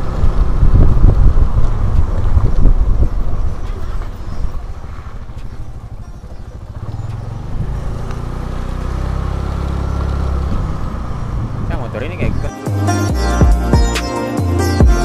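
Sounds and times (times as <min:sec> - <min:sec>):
motor scooter engine running: 0:00.0 - 0:13.9.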